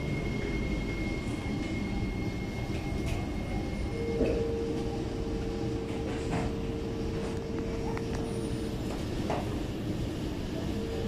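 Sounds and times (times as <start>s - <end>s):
high steady whine: 0.0s - 11.0s
train rumble: 0.0s - 11.0s.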